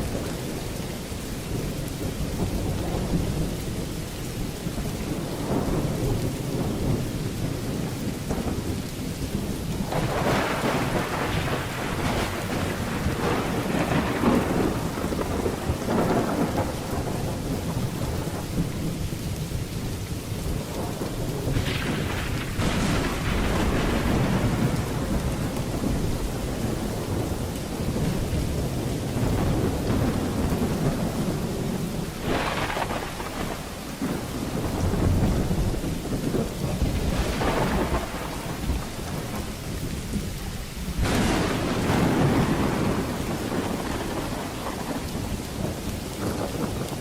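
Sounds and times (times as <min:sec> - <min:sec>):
heavy rain: 0:00.0 - 0:47.0
rolling thunder: 0:00.0 - 0:47.0.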